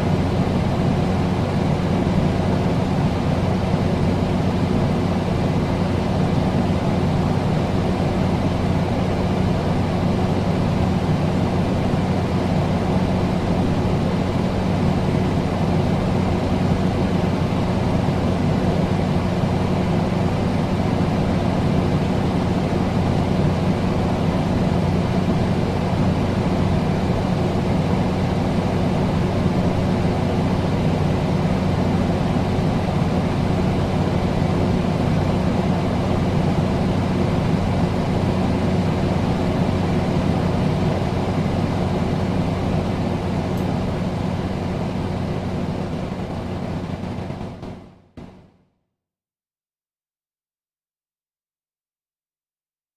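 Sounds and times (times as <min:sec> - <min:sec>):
air conditioner running: 0:00.0 - 0:48.3.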